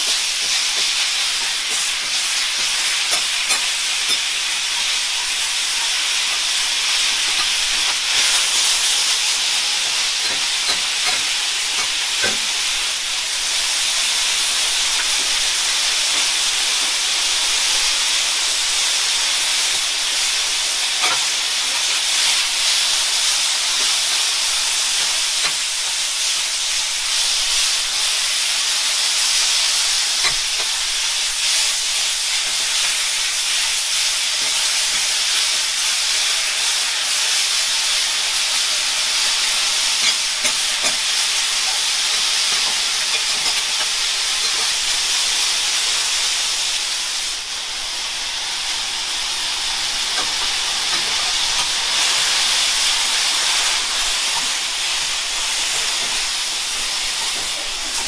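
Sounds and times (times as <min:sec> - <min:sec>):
food sizzling on a griddle: 0:00.0 - 0:58.0.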